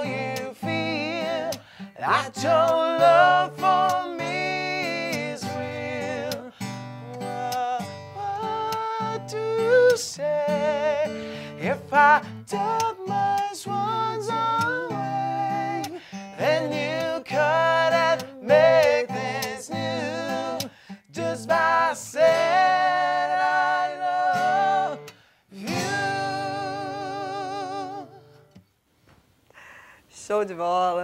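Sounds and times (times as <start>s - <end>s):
man singing with vibrato: 0.0s - 28.4s
acoustic guitar: 0.0s - 31.0s.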